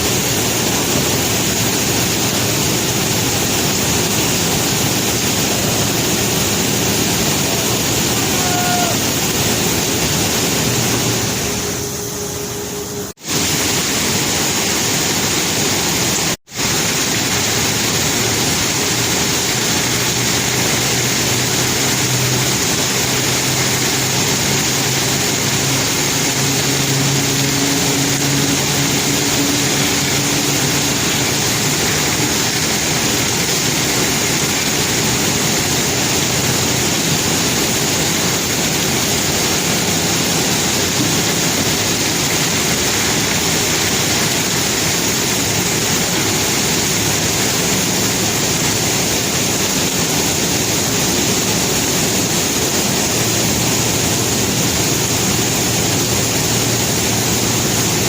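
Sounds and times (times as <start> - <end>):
conveyor belts carrying rock: 0.0 - 58.0.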